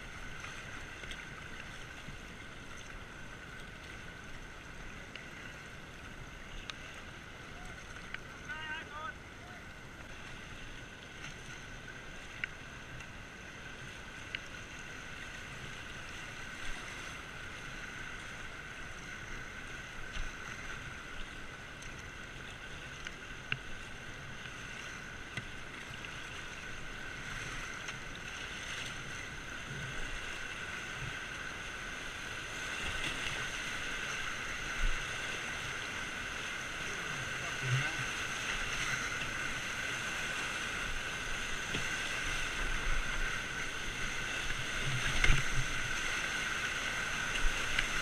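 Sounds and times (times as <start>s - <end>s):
paddle splashes: 0.0s - 48.0s
rushing river water: 0.0s - 48.0s.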